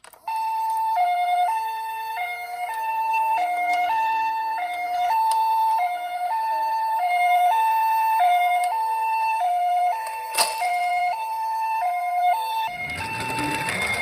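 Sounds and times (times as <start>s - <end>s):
toy siren two-tone: 0.0s - 14.0s.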